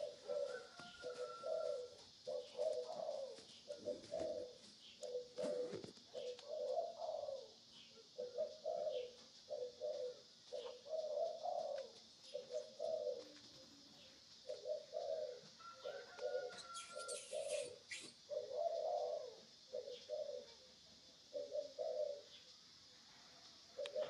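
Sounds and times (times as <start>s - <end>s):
pigeons cooing: 0.0s - 22.5s, 23.6s - 24.0s.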